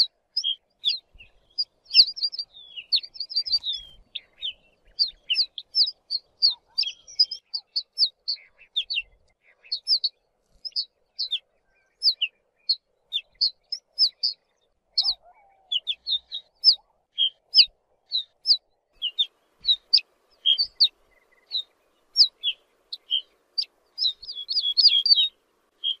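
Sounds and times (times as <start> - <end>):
bunting calling: 0.0 - 11.4, 12.0 - 26.0.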